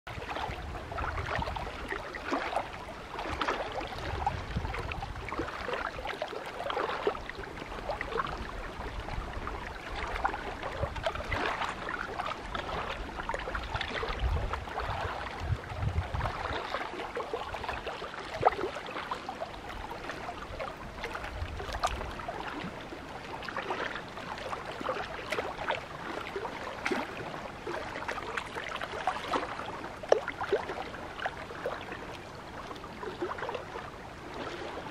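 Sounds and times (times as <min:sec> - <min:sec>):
wind rumbling on microphone: 0:00.1 - 0:34.9.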